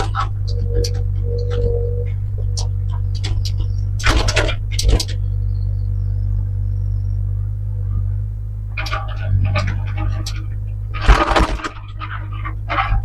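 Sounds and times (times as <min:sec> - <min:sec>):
heavy equipment engine droning: 0:00.0 - 0:13.0.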